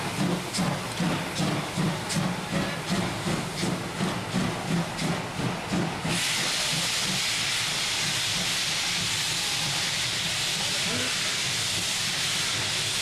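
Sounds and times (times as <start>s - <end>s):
loud hiss of steam: 0.0s - 13.0s
steam locomotive exhaust beats: 0.0s - 13.0s.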